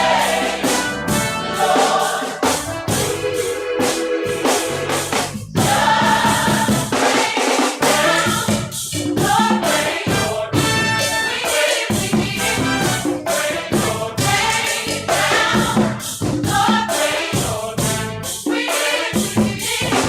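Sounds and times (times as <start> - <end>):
drums and percussion beat: 0.0 - 20.0
gospel choir singing: 0.0 - 20.0.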